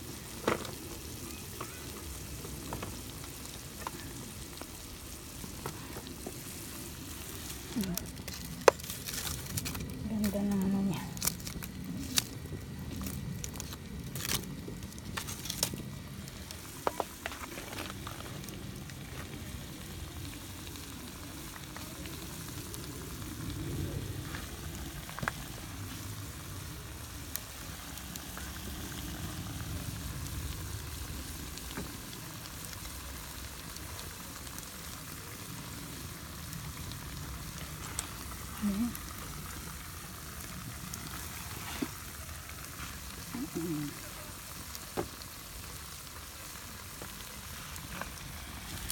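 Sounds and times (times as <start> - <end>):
beans sizzling in a pan: 0.0 - 48.9.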